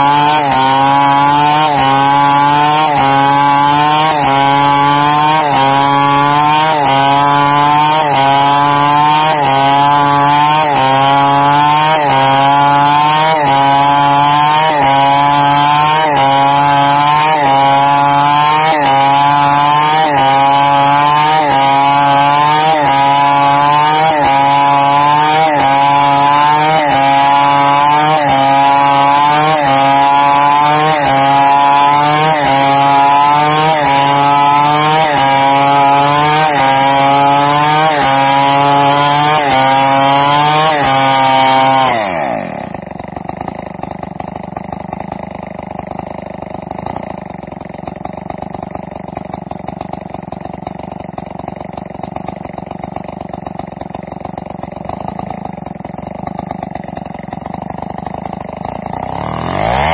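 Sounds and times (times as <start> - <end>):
chainsaw cutting through log: 0.0 - 59.9.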